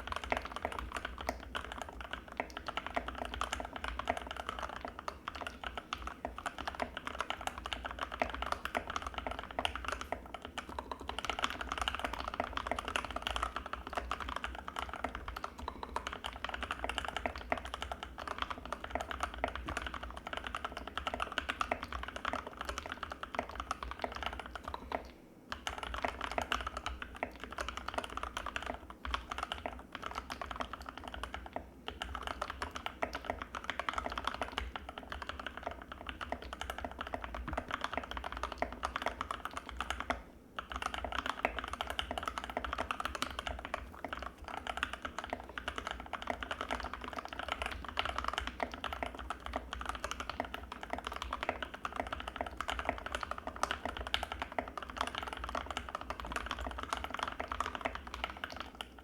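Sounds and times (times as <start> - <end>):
fast typing on mechanical keyboard: 0.0 - 59.0.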